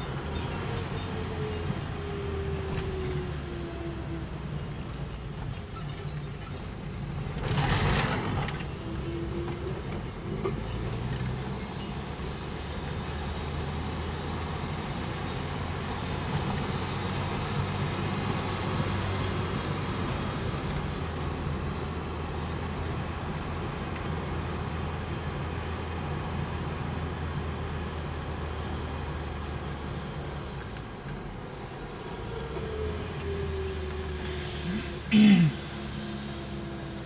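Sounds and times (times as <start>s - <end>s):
tyre and road noise: 0.0s - 37.0s.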